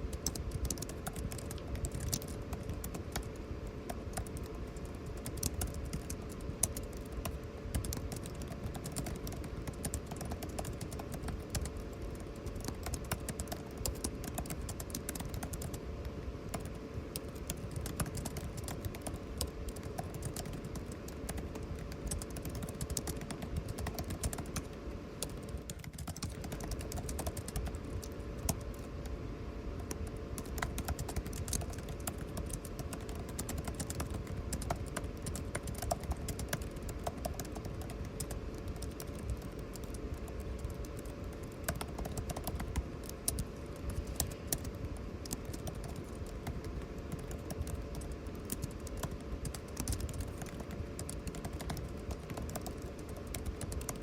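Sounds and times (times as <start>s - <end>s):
keyboard typing clicks: 0.0s - 15.8s, 16.5s - 29.2s, 29.8s - 54.0s
air conditioner hum: 0.0s - 54.0s.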